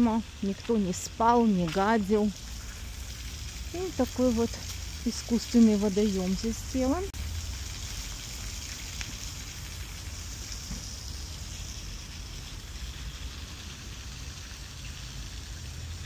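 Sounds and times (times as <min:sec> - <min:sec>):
small waterfall splashing: 0:00.0 - 0:16.0.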